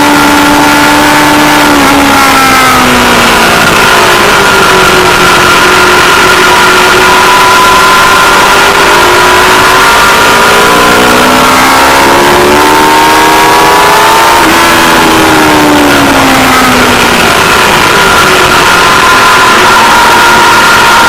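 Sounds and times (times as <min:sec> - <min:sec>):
motorcycle engine running hard: 0:00.0 - 0:21.0.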